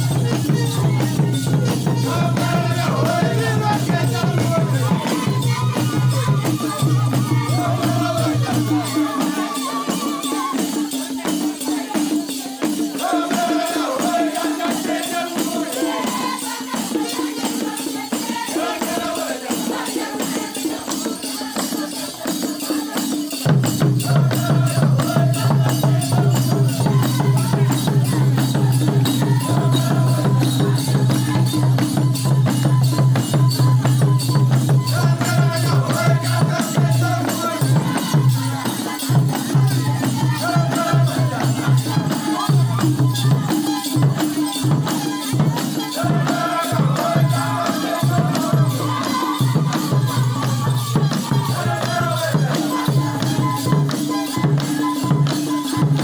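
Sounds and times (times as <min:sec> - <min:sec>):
hand drums beaten with sticks: 0:00.0 - 0:56.0
voices singing: 0:00.0 - 0:56.0.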